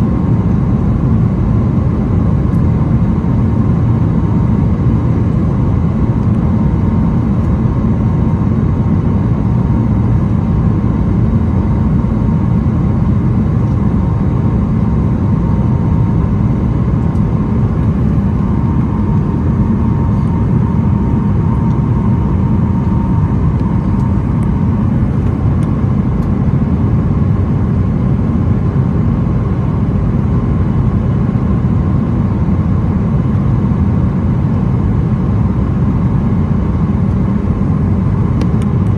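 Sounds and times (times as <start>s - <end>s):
jet engine rumble: 0.0s - 38.9s.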